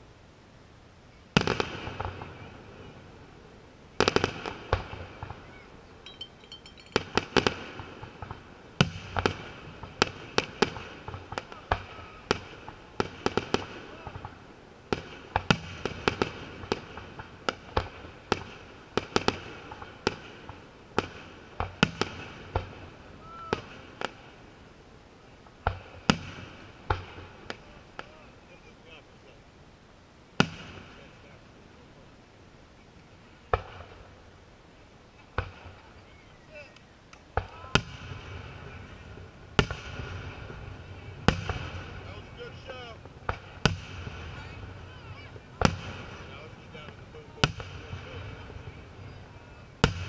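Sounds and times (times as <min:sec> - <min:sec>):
fireworks bursting with echo: 0:01.3 - 0:03.3, 0:03.9 - 0:06.0, 0:06.7 - 0:29.0, 0:30.4 - 0:31.4, 0:33.4 - 0:34.3, 0:35.2 - 0:50.0.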